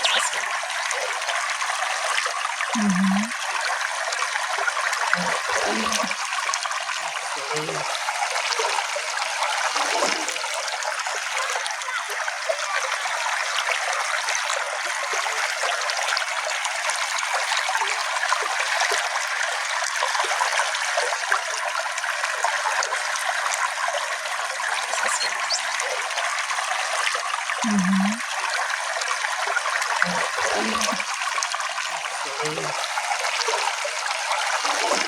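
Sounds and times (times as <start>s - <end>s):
stream trickling over stones: 0.0s - 35.0s.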